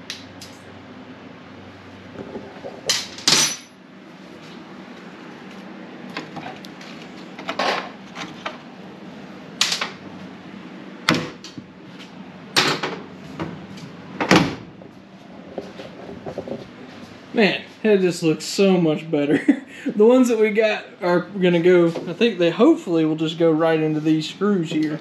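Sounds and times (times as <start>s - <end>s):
low hum: 0.0s - 23.7s.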